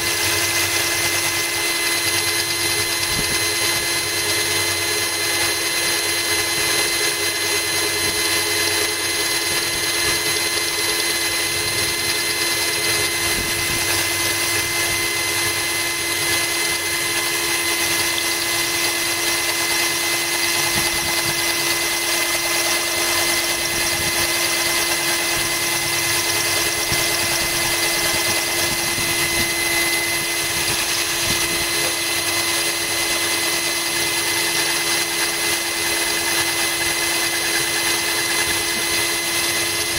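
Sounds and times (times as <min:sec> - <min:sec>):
cordless drill whining: 0:00.0 - 0:39.9
drill bit grinding glass: 0:00.0 - 0:39.9.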